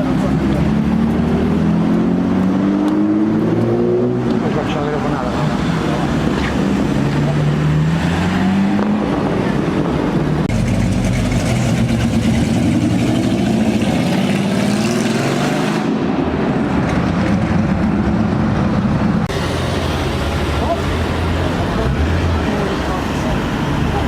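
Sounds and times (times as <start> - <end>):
car engine revving: 0.0 - 16.1, 16.8 - 24.0
street traffic noise: 0.0 - 24.0.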